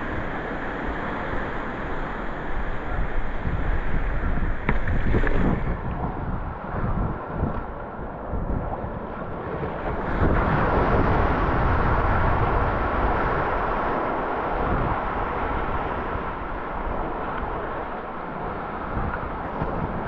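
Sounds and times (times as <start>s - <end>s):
rushing water: 0.0s - 20.0s
wind noise on microphone: 0.0s - 20.0s.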